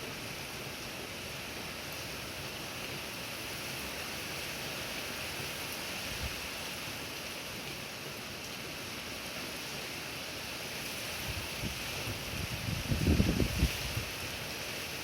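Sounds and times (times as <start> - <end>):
heavy rain: 0.0 - 15.0
wind: 0.0 - 15.0.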